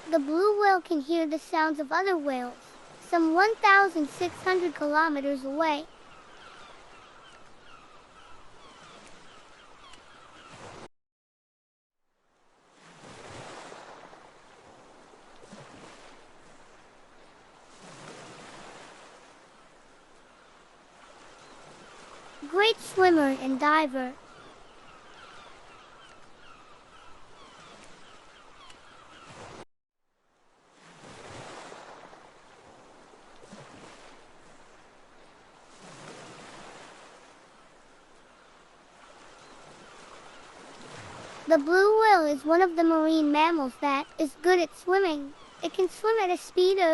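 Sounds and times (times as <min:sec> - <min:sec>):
faint ocean waves: 0:00.0 - 0:10.9, 0:12.2 - 0:29.6, 0:30.2 - 0:46.9.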